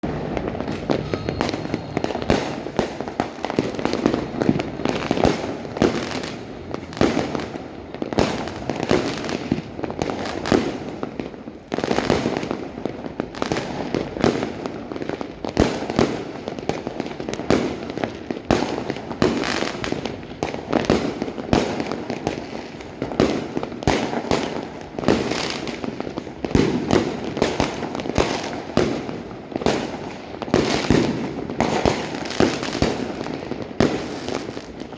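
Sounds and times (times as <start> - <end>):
firecrackers crackling: 0.0 - 34.9
fireworks bangs and pops: 0.0 - 34.9.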